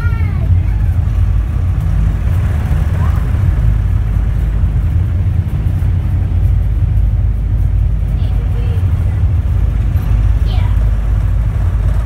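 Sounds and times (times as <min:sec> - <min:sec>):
diesel engines rumbling under load: 0:00.0 - 0:12.0.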